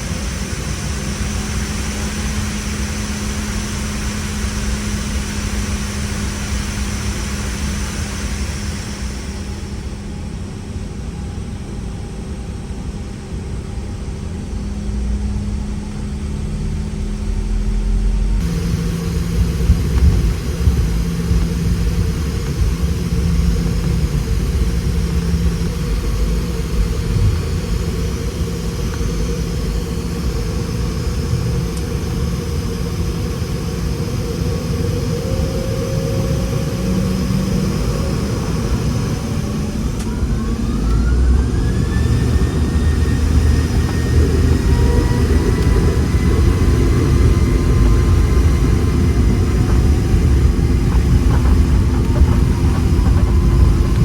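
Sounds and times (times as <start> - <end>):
engine whine rising in pitch: 0.0 - 54.0
jet engine rumble in cabin: 0.0 - 54.0.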